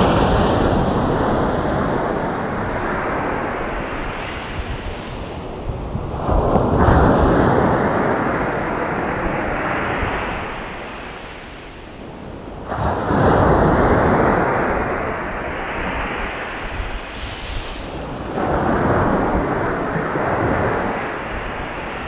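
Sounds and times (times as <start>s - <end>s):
ocean waves crashing: 0.0s - 11.8s, 12.4s - 22.0s.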